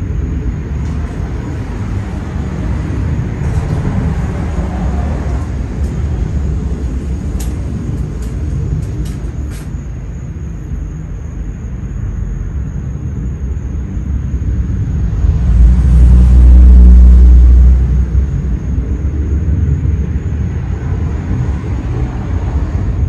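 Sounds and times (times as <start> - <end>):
faint high whine: 0.0 - 22.2
ceiling fan rumbling: 0.0 - 23.0.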